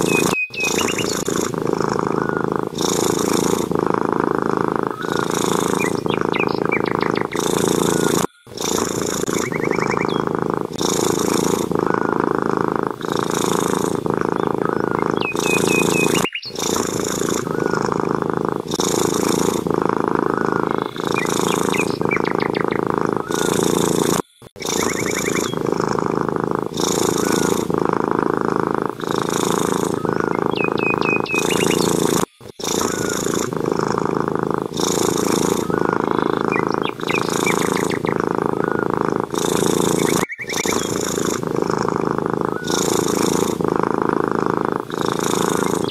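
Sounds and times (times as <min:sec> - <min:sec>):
cat purring loudly: 0:00.0 - 0:45.9.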